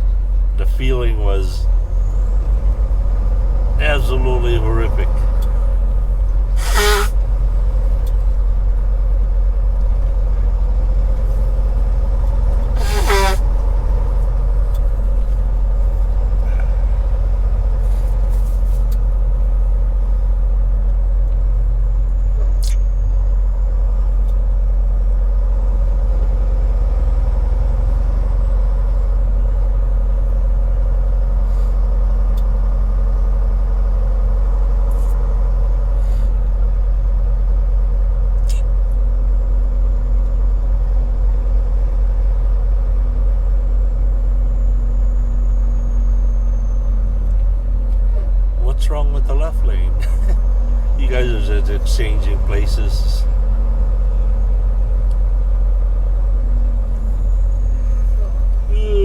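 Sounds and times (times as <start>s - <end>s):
truck diesel engine drone: 0.0s - 59.0s.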